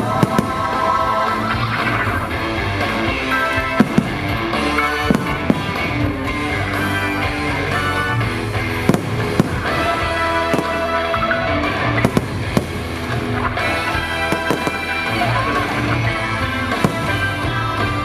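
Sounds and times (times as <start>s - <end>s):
firework bangs: 0.0s - 2.1s, 2.9s - 8.1s, 8.7s - 18.0s
rock music: 0.0s - 18.0s.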